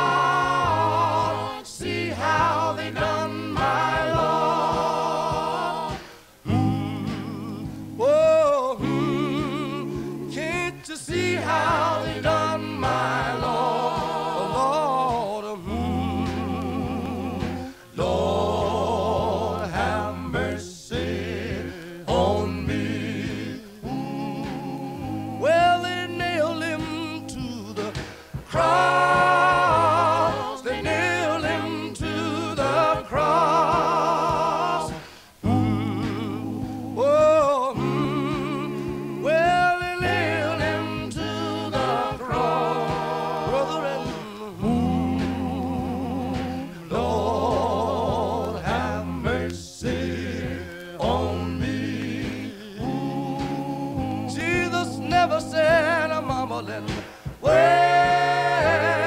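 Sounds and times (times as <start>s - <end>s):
male quartet singing in harmony: 0.0s - 59.0s.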